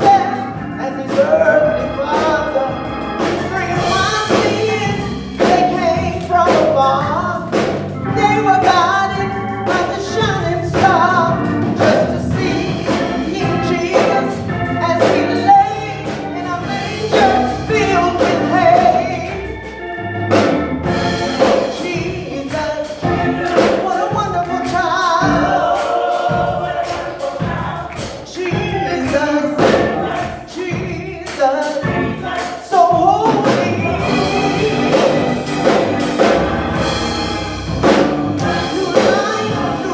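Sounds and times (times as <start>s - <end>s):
band accompaniment: 0.0s - 39.9s
drums beating: 0.0s - 39.9s
gospel choir singing: 0.0s - 39.9s.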